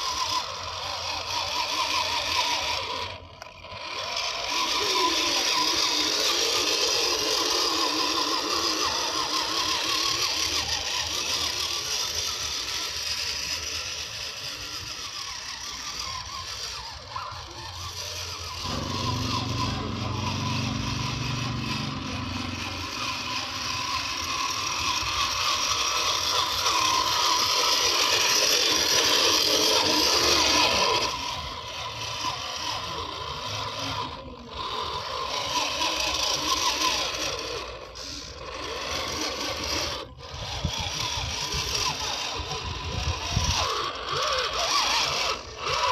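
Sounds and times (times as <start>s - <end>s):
toy car motor whirring: 0.0s - 45.9s.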